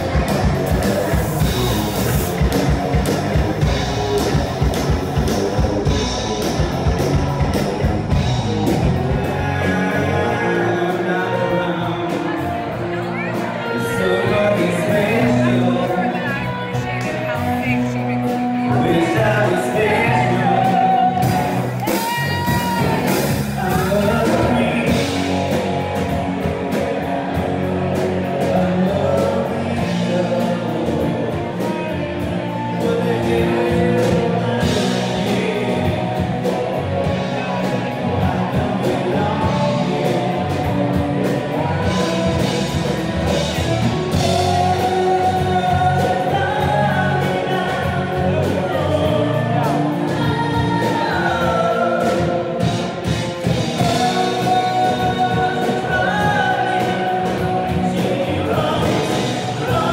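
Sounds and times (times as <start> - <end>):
bass guitar: 0.0 - 59.9
drums with steady beat: 0.0 - 59.9
electric guitars: 0.0 - 59.9
man singing lead: 0.0 - 59.9.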